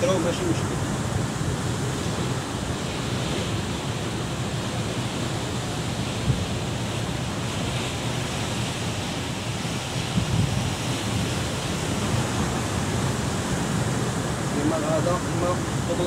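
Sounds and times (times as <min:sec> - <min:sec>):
surf breaking over rocks: 0:00.0 - 0:16.0
wind on microphone: 0:00.0 - 0:16.0.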